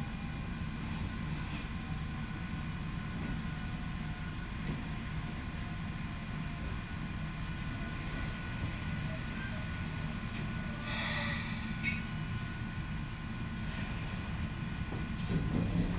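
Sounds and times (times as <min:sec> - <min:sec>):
train rumbling on track: 0:00.0 - 0:15.9.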